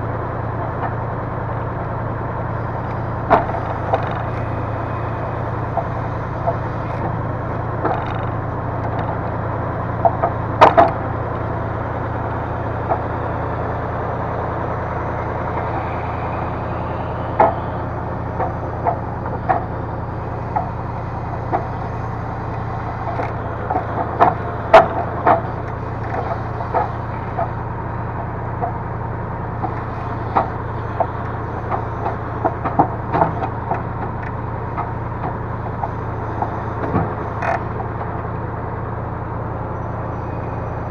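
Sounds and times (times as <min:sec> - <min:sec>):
crane knocking and clunking logs: 0:00.0 - 0:40.9
diesel engine running: 0:00.0 - 0:40.9.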